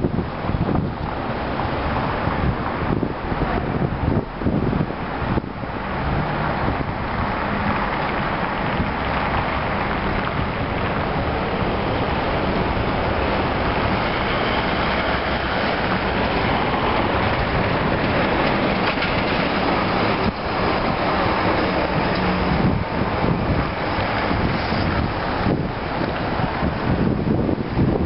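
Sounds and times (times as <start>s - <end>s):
city street traffic: 0.0s - 28.0s
wind on microphone: 0.0s - 28.0s
large vehicle passing: 0.7s - 28.0s.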